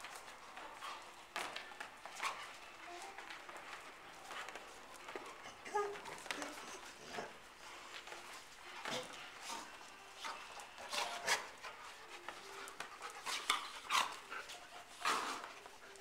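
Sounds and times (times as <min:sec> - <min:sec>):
dogs play-fighting: 0:00.0 - 0:16.0.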